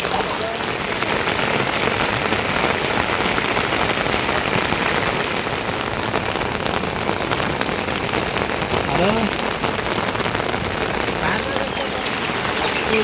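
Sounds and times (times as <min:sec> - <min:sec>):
rain falling: 0:00.0 - 0:13.0
raindrops ticking on a surface: 0:00.0 - 0:13.0.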